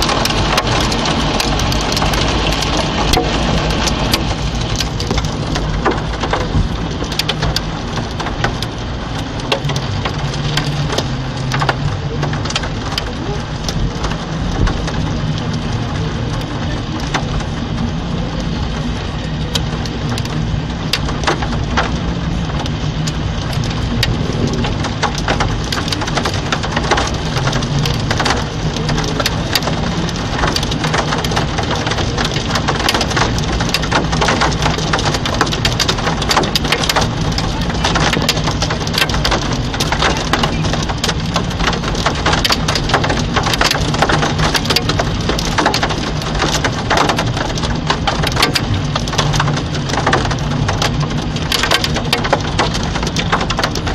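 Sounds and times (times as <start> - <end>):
heavy rain pelting down: 0.0 - 53.9.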